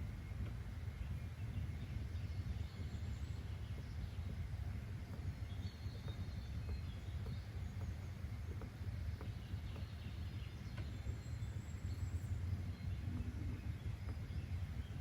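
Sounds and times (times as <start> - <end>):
faint bird chirps: 0.0 - 15.0
steady low rumble: 0.0 - 15.0.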